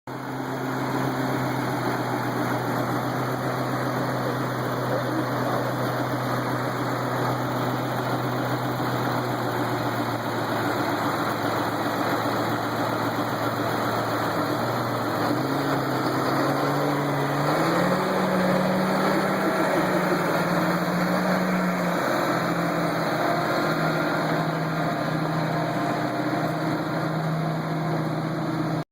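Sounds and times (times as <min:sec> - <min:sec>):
tractor engine running: 0:00.1 - 0:28.9.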